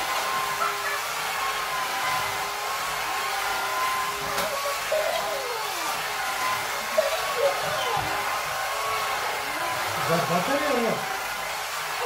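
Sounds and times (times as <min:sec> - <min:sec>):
floor sweeper whirring: 0:00.0 - 0:12.0.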